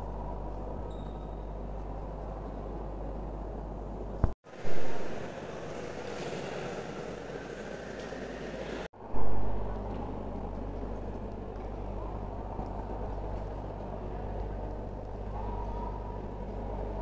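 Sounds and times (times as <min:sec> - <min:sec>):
church interior low rumble: 0:00.0 - 0:07.6, 0:08.9 - 0:17.0.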